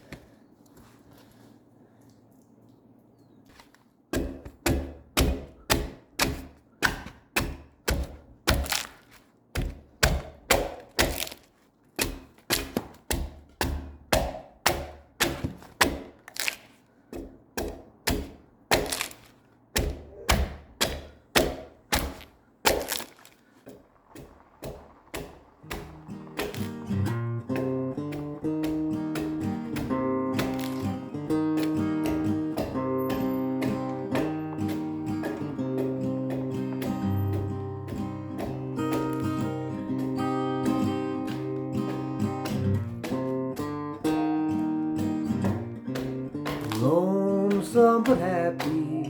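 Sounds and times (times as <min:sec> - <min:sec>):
axe striking log: 0:04.1 - 0:49.0.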